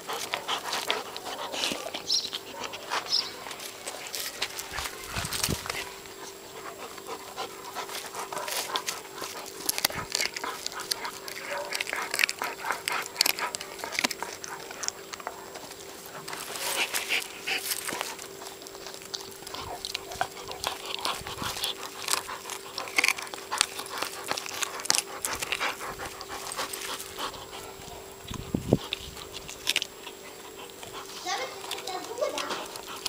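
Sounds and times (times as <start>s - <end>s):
puppy gnawing a bone: 0.0s - 33.0s.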